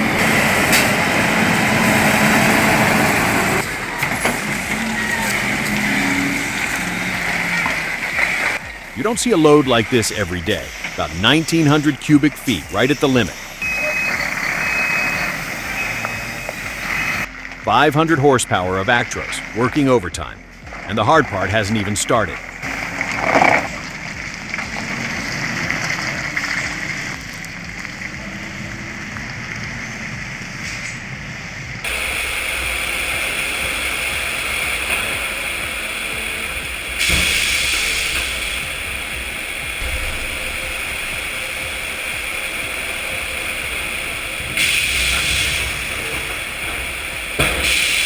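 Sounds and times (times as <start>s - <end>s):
steady hiss of wet road: 0.0s - 48.0s
truck engine drone: 0.0s - 48.0s.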